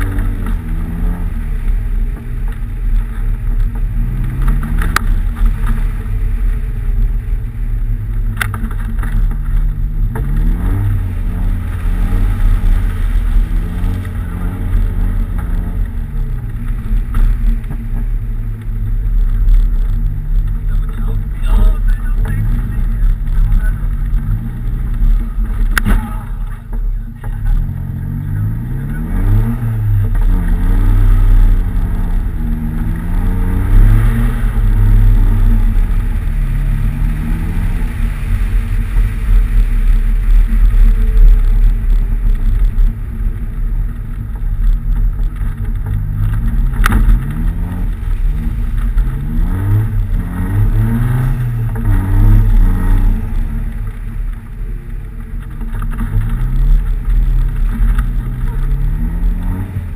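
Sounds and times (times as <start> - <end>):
car engine revving: 0.0 - 59.9
low rumble: 0.0 - 59.9.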